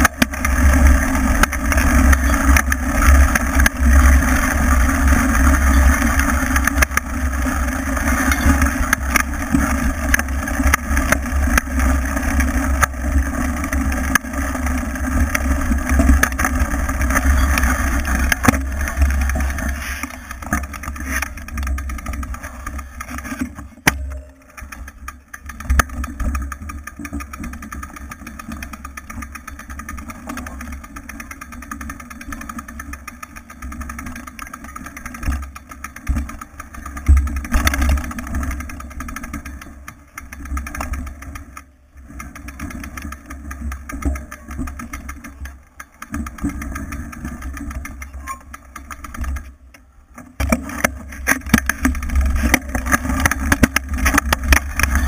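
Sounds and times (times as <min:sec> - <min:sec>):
bike knocks and rattles: 0:00.0 - 0:55.0
wind and tyre rumble: 0:00.0 - 0:55.0.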